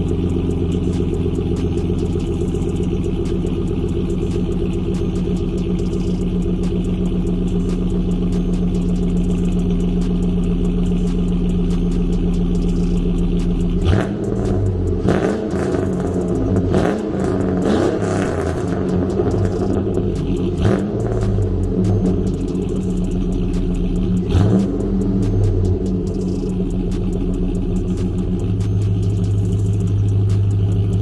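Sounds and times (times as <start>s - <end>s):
truck engine idling and revving: 0.0s - 31.0s.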